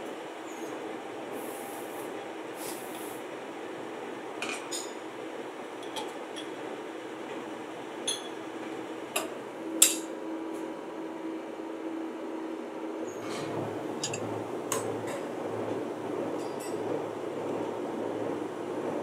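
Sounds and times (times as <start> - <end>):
workshop machinery hum: 0.0 - 19.0.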